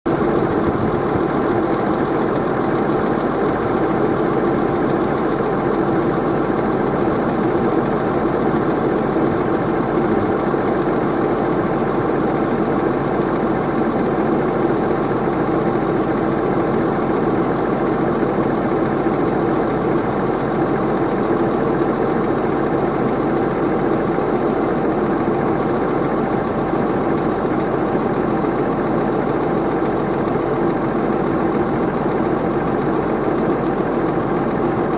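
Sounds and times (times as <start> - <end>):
tractor engine droning: 0.1 - 34.9.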